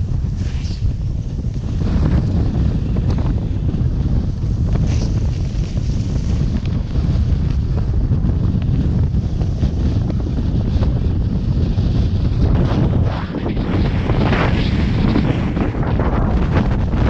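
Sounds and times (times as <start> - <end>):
wind buffeting microphone: 0.0 - 17.0
snowboard scraping snow: 0.1 - 17.0.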